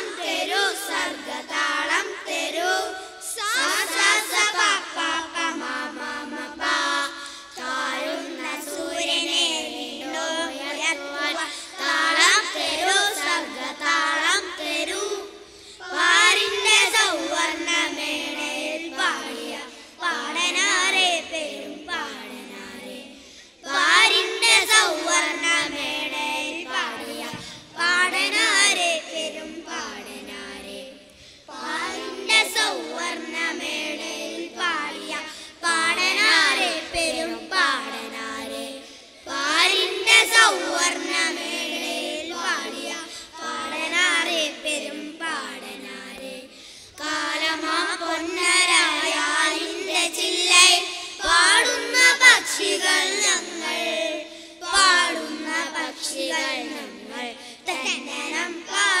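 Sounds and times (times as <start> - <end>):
boys singing in unison: 0.0 - 59.0.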